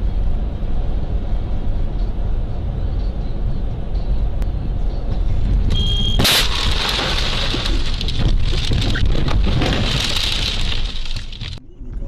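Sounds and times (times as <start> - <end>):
car driving on snowy road: 0.0 - 12.0.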